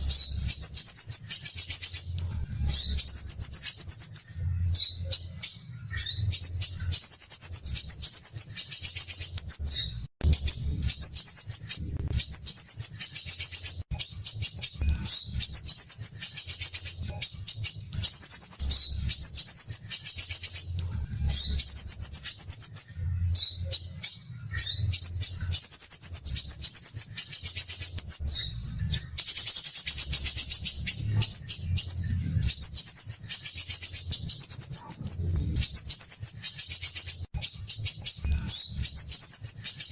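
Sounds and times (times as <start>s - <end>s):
bird singing harsh trills: 0.0s - 39.9s.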